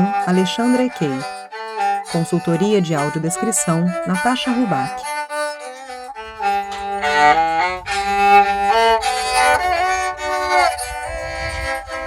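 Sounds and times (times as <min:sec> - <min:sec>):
bowed fiddle melody: 0:00.0 - 0:12.0.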